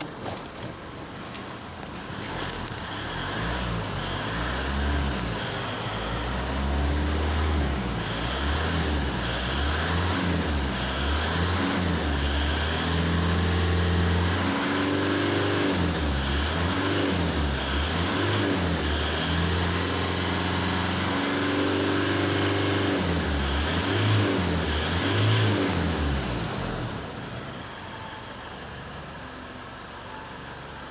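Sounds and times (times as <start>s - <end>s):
diesel engine revving and idling: 0.0s - 30.9s.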